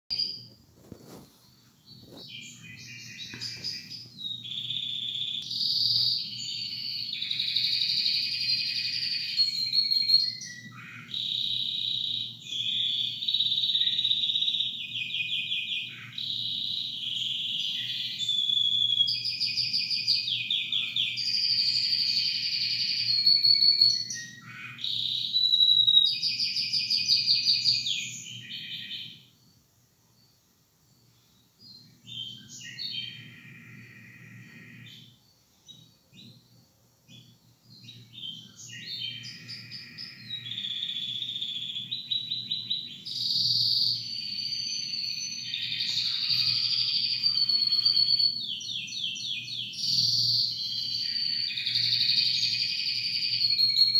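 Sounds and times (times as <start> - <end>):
canary singing trills: 1.8 - 29.6, 30.9 - 53.9.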